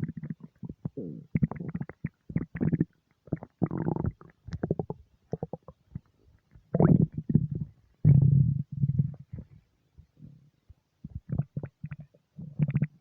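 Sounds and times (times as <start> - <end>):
stomach gurgling and rumbling: 0.0 - 10.4, 11.0 - 13.0.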